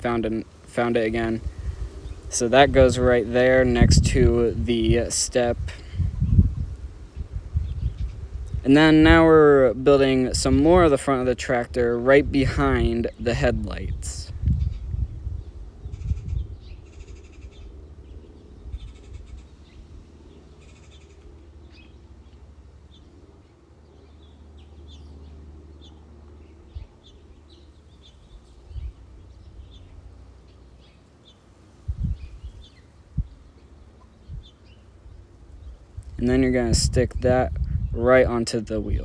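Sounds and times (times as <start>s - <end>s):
small birds chirping: 0.0s - 9.2s, 12.8s - 39.0s
steady low rumble: 0.0s - 31.0s, 31.8s - 39.0s.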